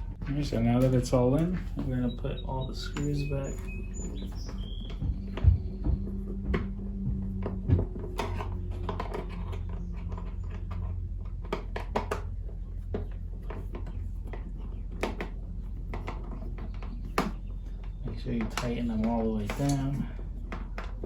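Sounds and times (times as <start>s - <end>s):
steady low hum: 0.0s - 21.0s
tools tapping on plastic panels: 0.7s - 21.0s.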